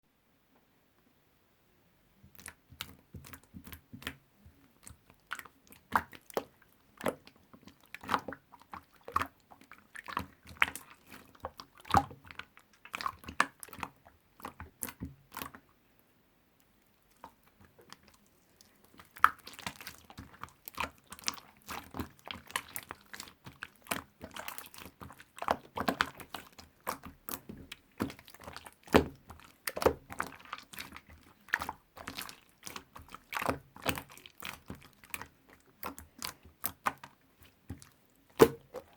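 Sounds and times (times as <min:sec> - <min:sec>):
slime squished by hand: 0:02.3 - 0:15.7, 0:17.0 - 0:38.9.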